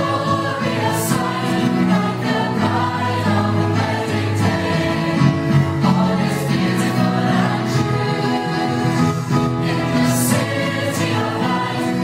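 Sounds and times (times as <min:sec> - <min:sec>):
choir singing: 0:00.0 - 0:12.0
piano: 0:00.0 - 0:12.0.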